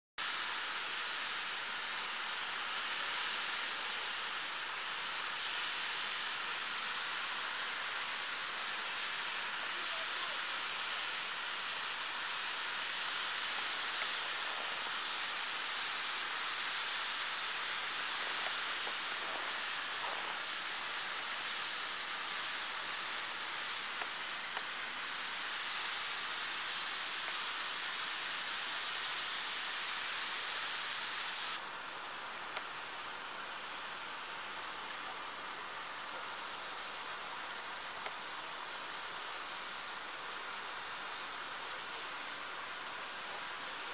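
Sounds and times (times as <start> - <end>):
snow gun hissing: 0.2 - 43.9.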